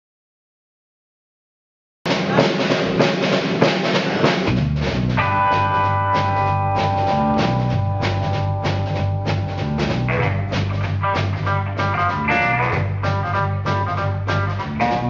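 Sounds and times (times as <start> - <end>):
bass: 2.1 - 15.0
drum kit: 2.1 - 15.0.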